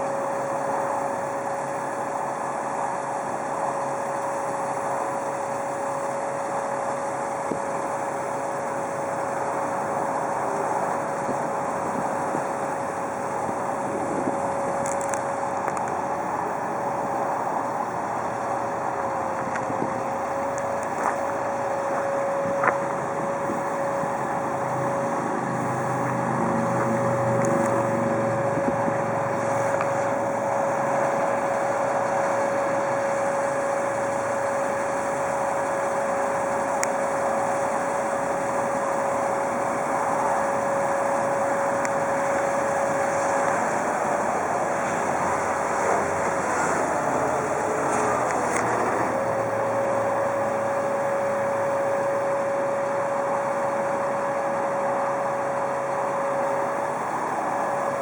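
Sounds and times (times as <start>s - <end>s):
high whine: 0.0s - 58.0s
truck engine running: 0.0s - 58.0s.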